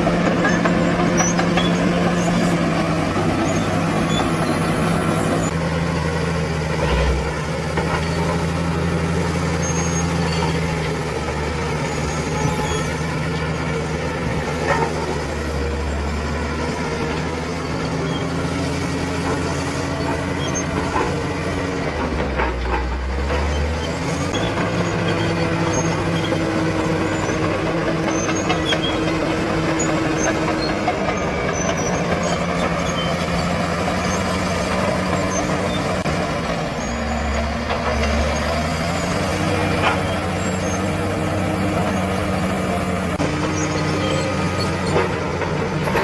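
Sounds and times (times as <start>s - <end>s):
bulldozer diesel engine running: 0.0s - 46.0s.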